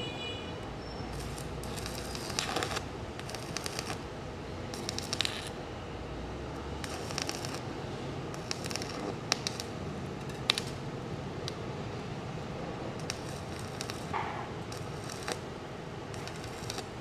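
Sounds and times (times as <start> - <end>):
welding arc crackling: 1.0 - 5.6, 6.4 - 17.0.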